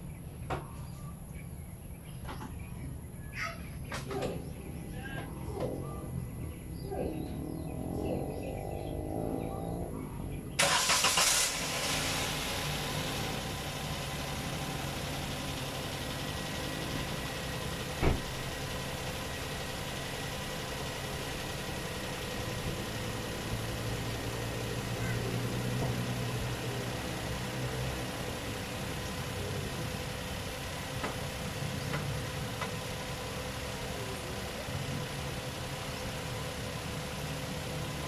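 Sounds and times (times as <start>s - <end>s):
car engine starting and idling: 3.8s - 38.0s.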